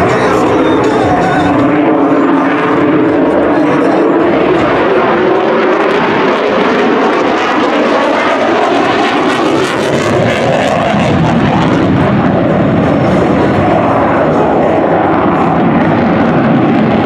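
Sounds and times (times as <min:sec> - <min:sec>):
jet engine roaring in afterburner: 0:00.0 - 0:17.0.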